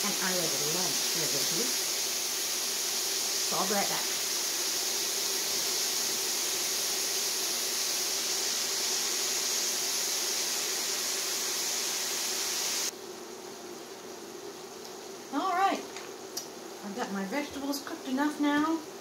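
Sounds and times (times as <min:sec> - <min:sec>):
room hiss: 0:00.0 - 0:19.0
vegetables sizzling in a pan: 0:00.0 - 0:19.0.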